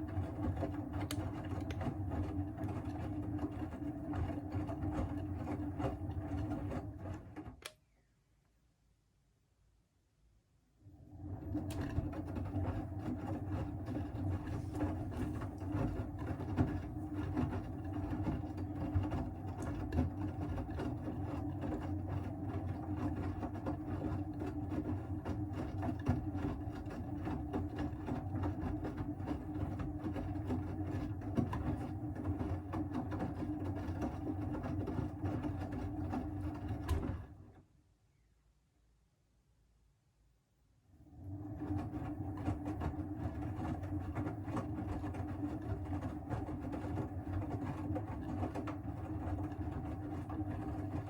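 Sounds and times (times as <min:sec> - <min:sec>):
washing machine drum grinding: 0:00.0 - 0:07.6, 0:11.1 - 0:37.6, 0:41.3 - 0:51.0.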